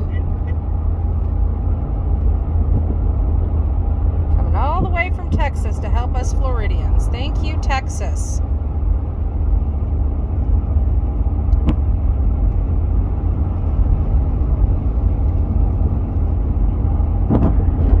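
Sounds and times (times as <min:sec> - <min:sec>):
car interior road rumble: 0:00.0 - 0:18.0.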